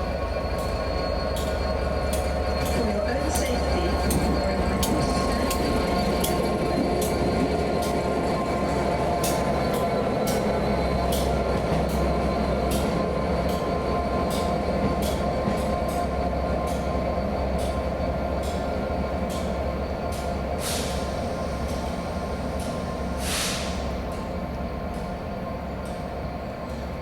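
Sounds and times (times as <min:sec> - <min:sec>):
train low rumble: 0:00.0 - 0:27.0
train wheels clicking over rail joints: 0:00.1 - 0:27.0.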